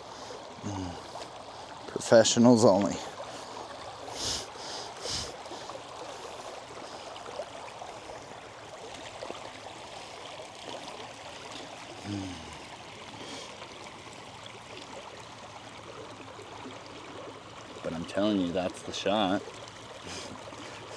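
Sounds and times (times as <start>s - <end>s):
creek water trickling over stones: 0.0s - 20.9s.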